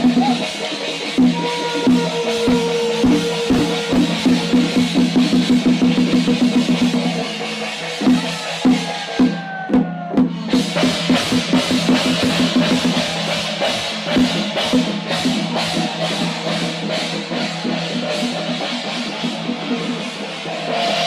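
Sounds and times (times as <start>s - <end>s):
cymbals wash: 0.0s - 9.2s, 10.4s - 21.0s
drums beating: 0.0s - 21.0s.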